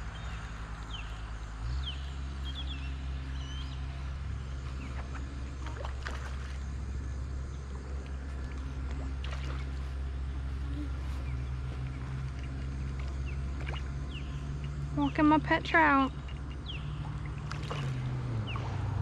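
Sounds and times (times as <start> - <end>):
steady low drone: 0.0 - 19.0.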